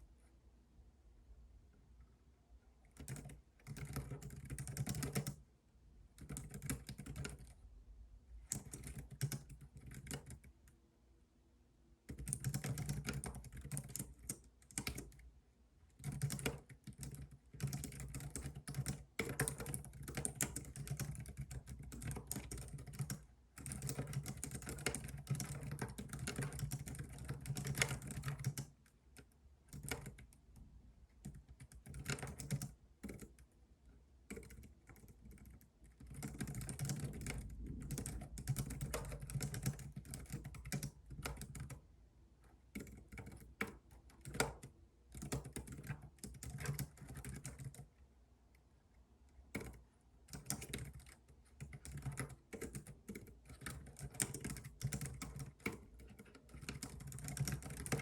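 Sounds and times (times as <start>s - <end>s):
computer keyboard typing: 2.9s - 5.4s, 6.2s - 7.6s, 8.4s - 10.5s, 12.1s - 15.2s, 16.0s - 30.6s, 31.2s - 33.5s, 34.2s - 41.8s, 42.4s - 48.0s, 49.4s - 58.0s.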